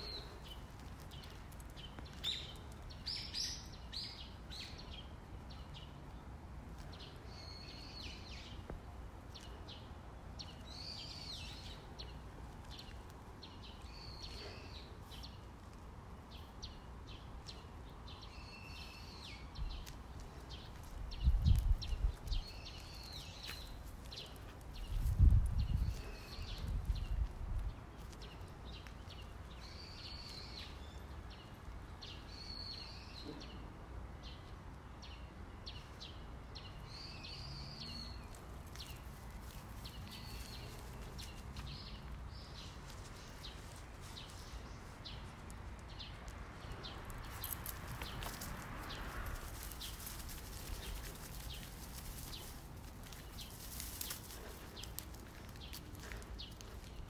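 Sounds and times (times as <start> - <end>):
outdoor background noise: 0.0 - 57.0.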